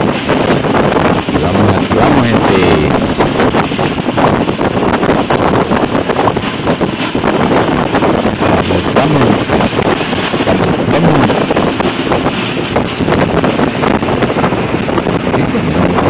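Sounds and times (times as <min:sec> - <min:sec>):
bus road and engine noise: 0:00.0 - 0:16.0
wind rushing on microphone: 0:00.0 - 0:16.0.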